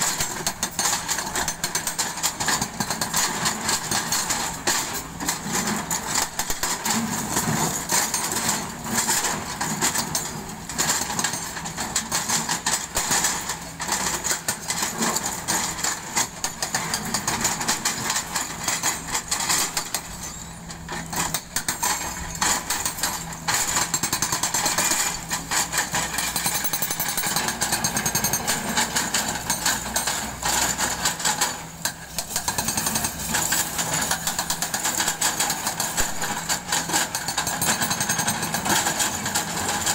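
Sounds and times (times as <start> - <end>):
hydraulic rock breaker hammering: 0.0 - 39.9.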